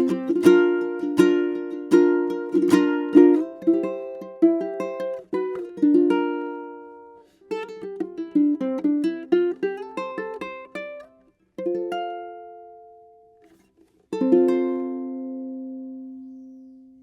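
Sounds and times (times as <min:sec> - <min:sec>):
ukulele chords strummed: 0:00.0 - 0:16.3
ukulele plucked notes: 0:00.0 - 0:16.5.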